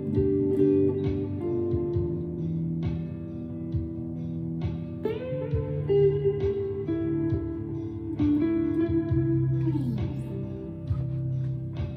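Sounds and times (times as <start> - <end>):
ambient electric guitar notes: 0.0 - 11.9.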